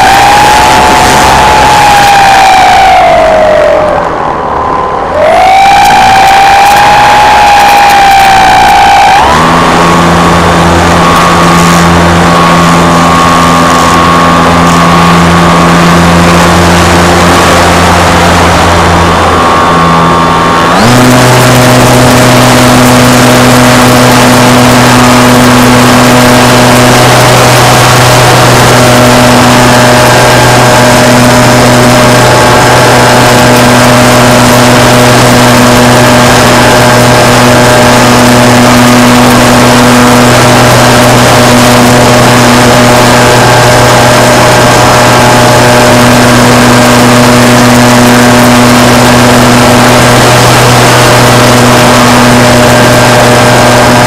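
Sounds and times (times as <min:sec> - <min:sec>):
rushing air: 0:00.0 - 0:54.0
model aircraft motor whine: 0:06.5 - 0:54.0.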